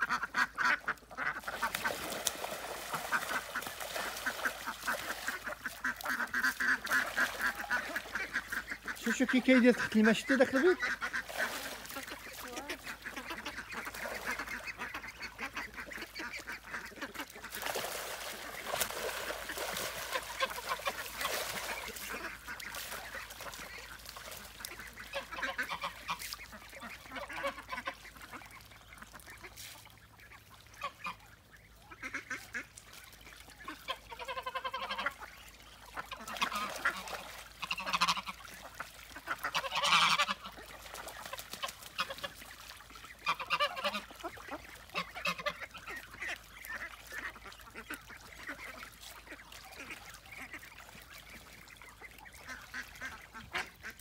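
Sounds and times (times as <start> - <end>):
geese honking: 0.0 - 17.6, 18.2 - 32.8, 33.4 - 54.0
ducks quacking: 0.0 - 54.0.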